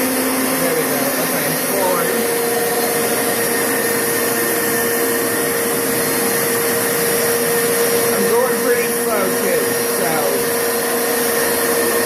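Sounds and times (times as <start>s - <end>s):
carpet cleaner motor hum and whine: 0.0s - 12.0s.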